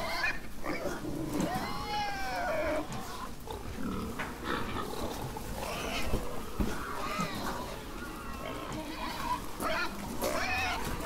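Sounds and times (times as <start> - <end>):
pig grunting: 0.0 - 11.0
pig squealing: 0.0 - 11.0.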